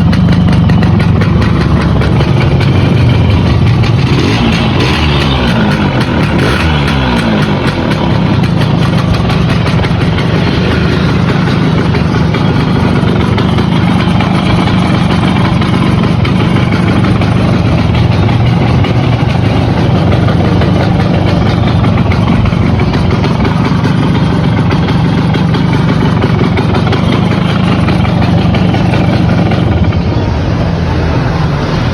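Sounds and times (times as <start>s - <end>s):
two-stroke engine idling: 0.0s - 31.9s.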